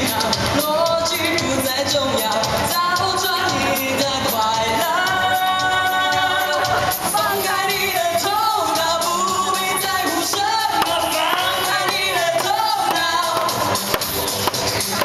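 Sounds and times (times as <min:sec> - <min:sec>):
man singing into microphone: 0:00.0 - 0:13.8
pop backing track with beat: 0:00.0 - 0:15.0.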